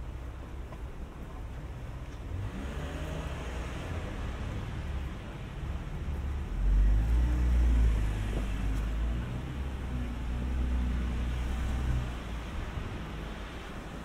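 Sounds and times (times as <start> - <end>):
hiss from wet street: 0.0 - 14.0
vehicle engine rumbling: 0.0 - 14.0.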